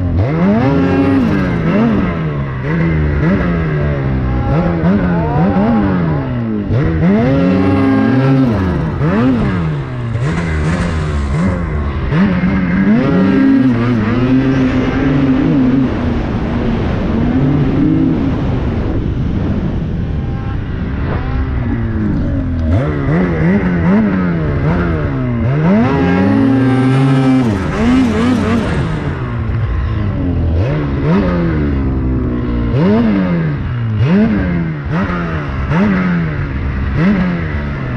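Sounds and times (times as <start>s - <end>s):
snowmobile engine revving: 0.0s - 37.9s.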